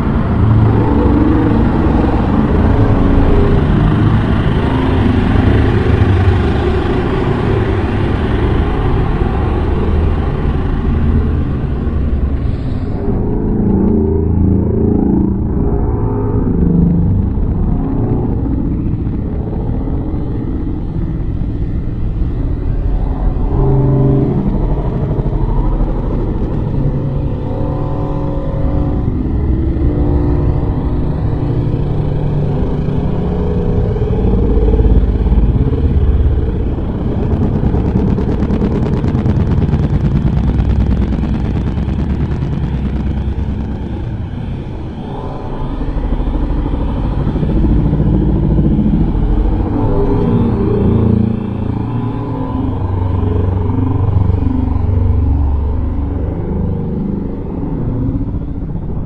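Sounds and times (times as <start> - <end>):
low rumbling: 0.0 - 59.0.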